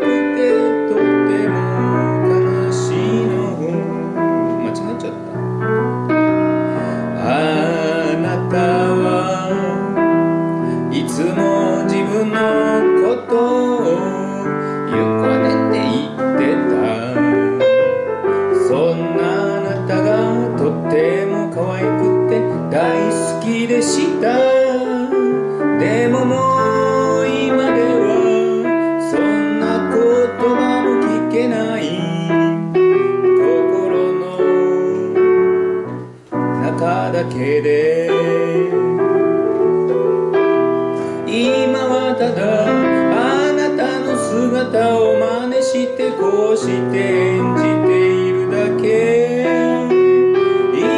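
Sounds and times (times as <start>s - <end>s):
piano accompaniment: 0.0s - 50.9s.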